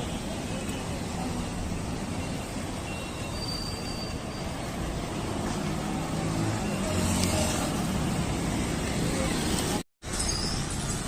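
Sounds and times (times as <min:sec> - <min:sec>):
passing vehicle engines rumbling: 0:00.0 - 0:11.0.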